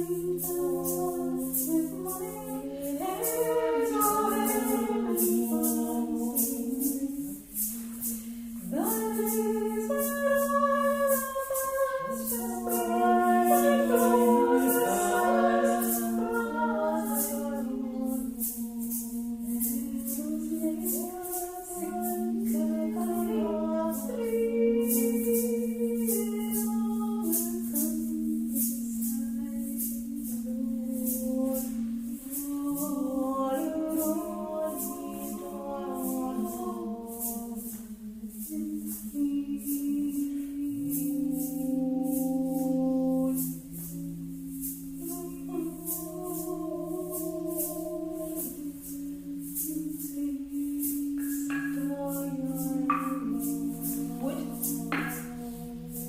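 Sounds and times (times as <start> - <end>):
shaker rattling: 0.0 - 56.0
voices singing held notes: 0.0 - 56.0.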